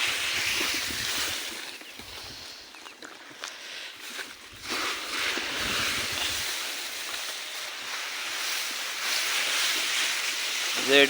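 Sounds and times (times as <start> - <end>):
wind hissing: 0.0 - 2.7, 3.6 - 11.0.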